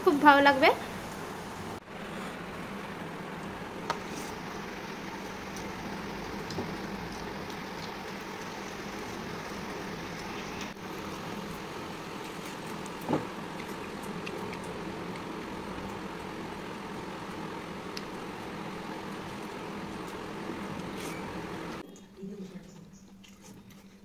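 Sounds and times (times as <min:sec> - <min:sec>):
electric fan whirring: 0:00.0 - 0:24.0.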